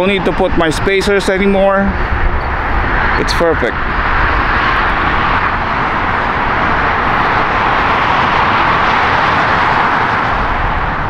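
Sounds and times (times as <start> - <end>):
loud rushing noise: 0.0 - 11.0
low rumble: 0.0 - 11.0.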